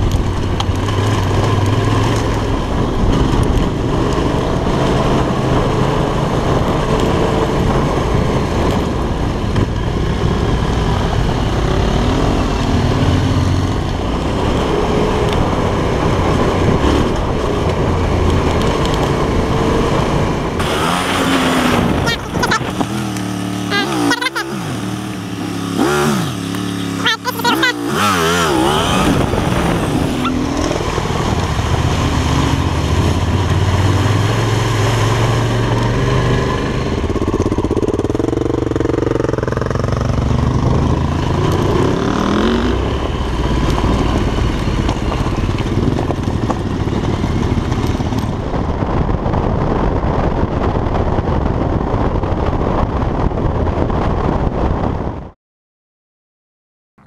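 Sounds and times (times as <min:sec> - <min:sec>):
motorcycle engine while riding: 0:00.0 - 0:55.4
steady rush of noise: 0:01.8 - 0:55.3.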